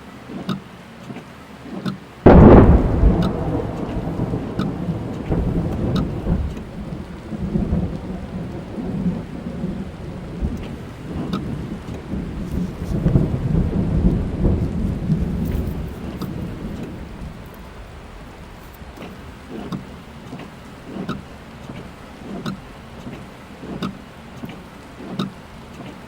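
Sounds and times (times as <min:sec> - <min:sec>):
rain falling on a car: 0:00.0 - 0:26.0
raindrops ticking: 0:00.0 - 0:26.0
thunder rumbling: 0:02.2 - 0:24.8.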